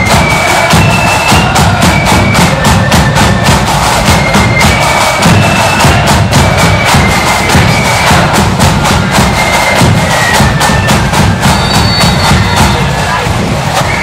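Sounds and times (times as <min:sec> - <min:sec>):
high flute melody: 0:00.0 - 0:14.0
snare and bass drums beat: 0:00.0 - 0:14.0.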